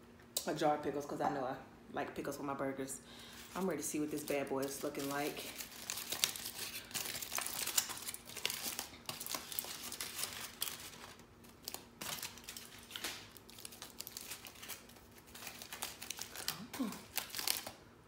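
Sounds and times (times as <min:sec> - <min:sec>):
faint steady hum: 0:00.0 - 0:18.0
paper and foil crinkling: 0:03.2 - 0:17.8.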